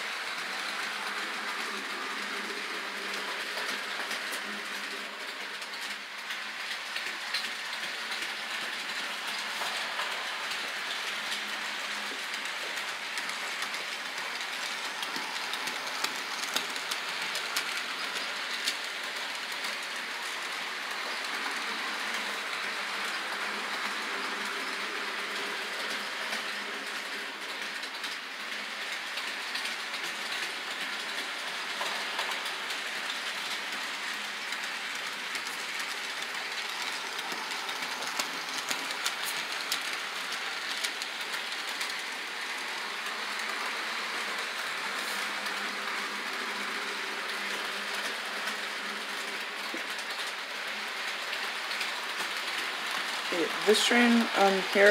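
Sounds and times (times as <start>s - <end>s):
model train clattering on track: 0.0s - 54.9s.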